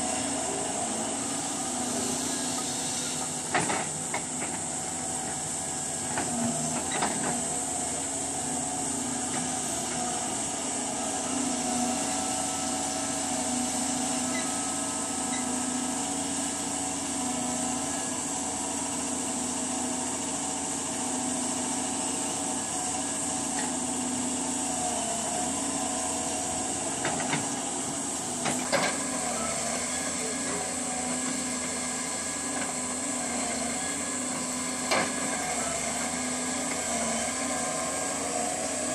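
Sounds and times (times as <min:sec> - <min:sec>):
excavator diesel engine running: 0:00.0 - 0:38.9
hydraulic whine and hiss: 0:00.0 - 0:38.9.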